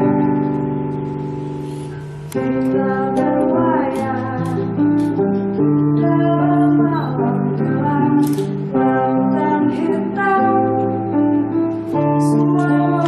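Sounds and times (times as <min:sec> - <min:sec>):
sustained instrumental chords: 0:00.0 - 0:13.0
high singing voice: 0:01.5 - 0:13.0.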